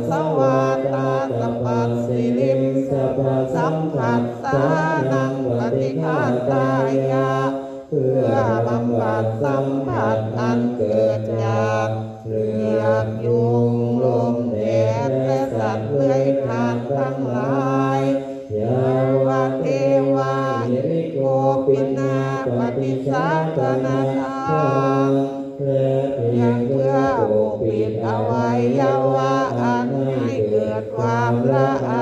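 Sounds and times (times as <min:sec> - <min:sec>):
monks chanting: 0:00.0 - 0:32.0.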